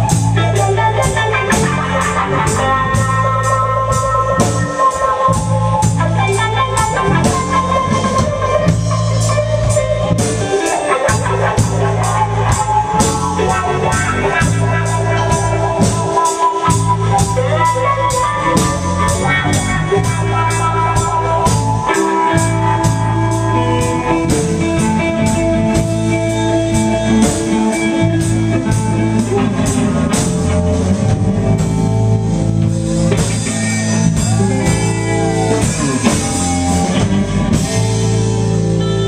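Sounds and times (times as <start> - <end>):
bass guitar: 0.0 - 39.0
drum kit steady beat: 0.0 - 39.0
electric guitar held notes: 0.0 - 39.0.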